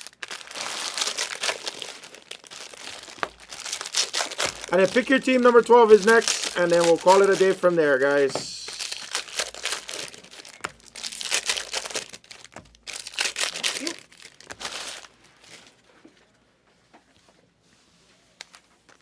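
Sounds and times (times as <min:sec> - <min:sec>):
plastic packaging crinkling and tearing: 0:00.0 - 0:15.8.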